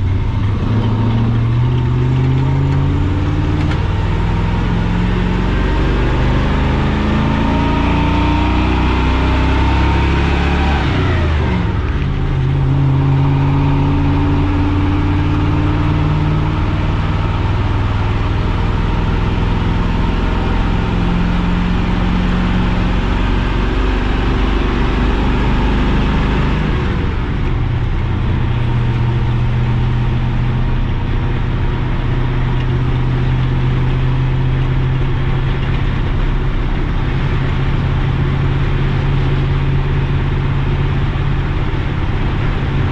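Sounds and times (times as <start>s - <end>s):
truck engine pulling through gear changes: 0.0s - 42.9s.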